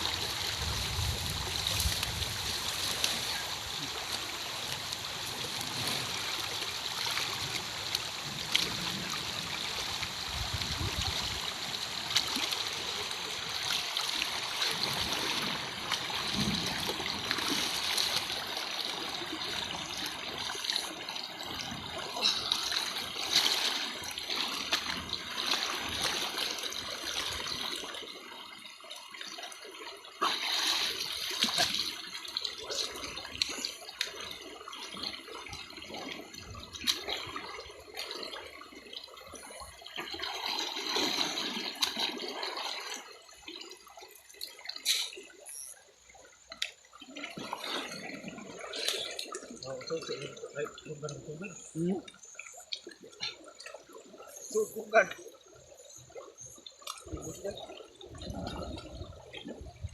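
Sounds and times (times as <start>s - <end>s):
river water splashing and trickling: 0.0s - 59.9s.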